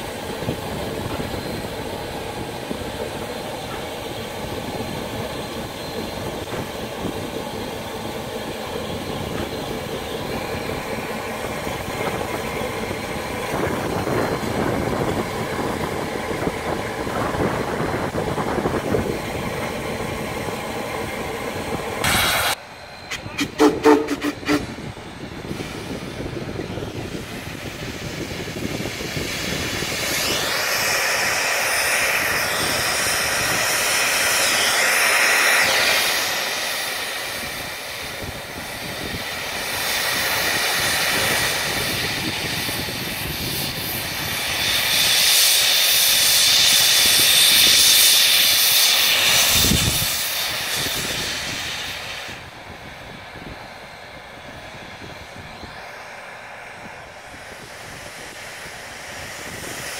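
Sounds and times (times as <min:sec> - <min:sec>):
steam locomotive venting steam: 0:00.0 - 0:59.9.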